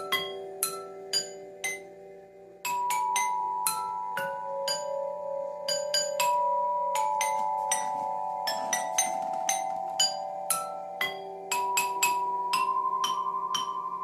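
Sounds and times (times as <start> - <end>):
musical doorbell chime: 0.0 - 14.0.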